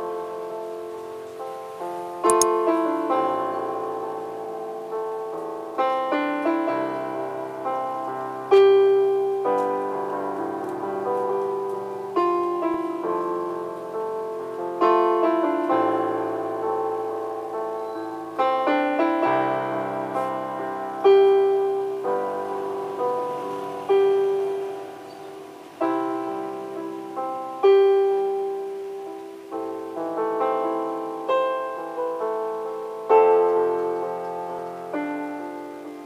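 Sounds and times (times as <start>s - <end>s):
electronic keyboard piano chords: 0.0s - 36.0s.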